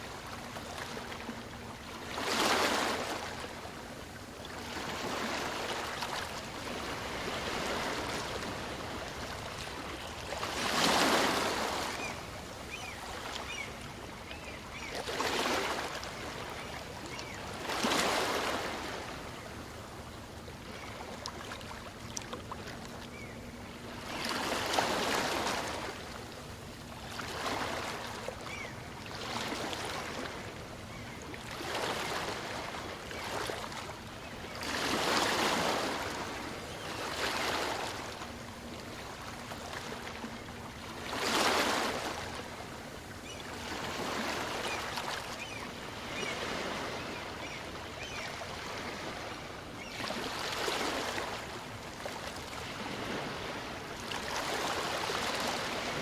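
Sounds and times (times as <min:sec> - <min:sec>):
calm sea waves breaking: 0:00.0 - 0:56.0.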